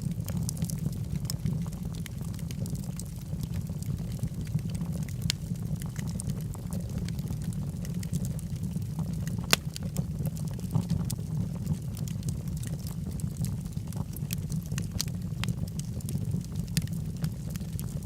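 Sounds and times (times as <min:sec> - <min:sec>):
logs crackling and popping: 0:00.0 - 0:18.0
low roar of flames: 0:00.0 - 0:18.0.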